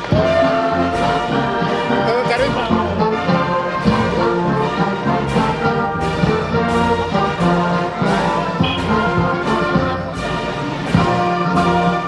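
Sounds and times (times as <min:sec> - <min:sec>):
brass music with held notes: 0:00.0 - 0:12.0.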